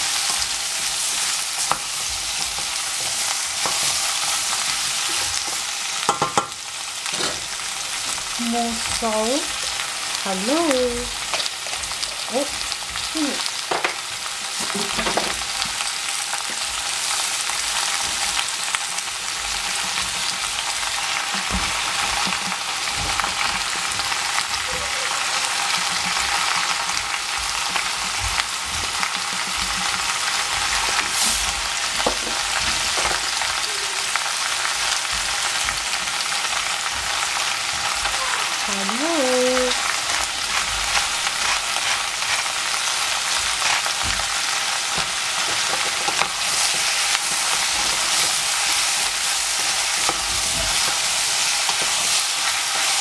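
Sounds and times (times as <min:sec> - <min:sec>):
vegetables sizzling in a saucepan: 0:00.0 - 0:53.0.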